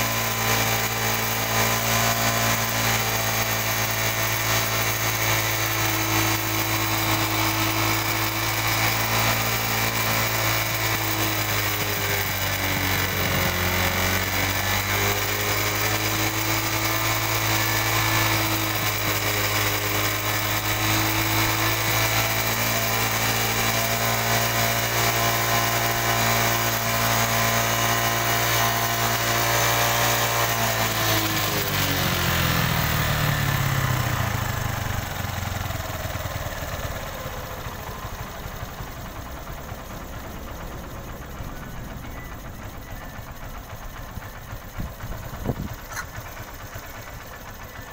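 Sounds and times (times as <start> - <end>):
motorcycle engine idling: 0.0 - 27.7, 30.8 - 47.9.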